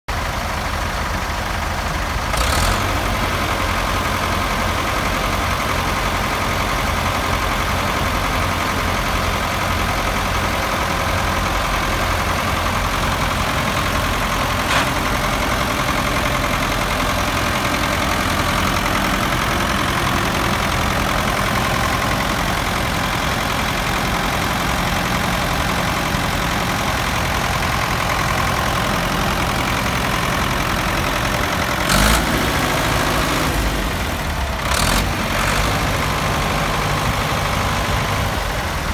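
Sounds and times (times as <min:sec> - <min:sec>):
tractor engine idling: 0:00.1 - 0:38.9.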